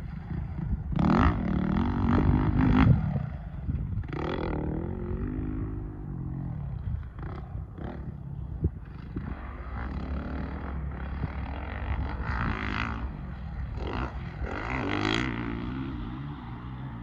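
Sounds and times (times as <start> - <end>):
motocross bike engine revving: 0.1 - 17.0.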